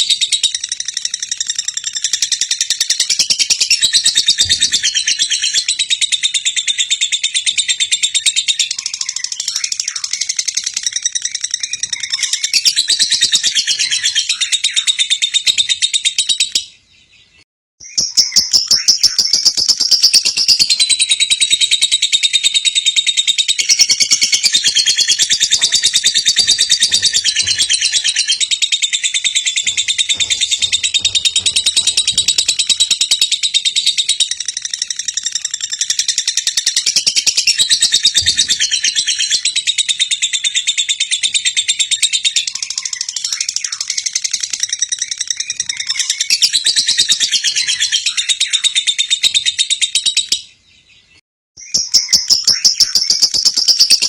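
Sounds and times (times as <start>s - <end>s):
lovebird chattering song: 0.0s - 16.8s, 17.8s - 50.6s, 51.6s - 54.0s.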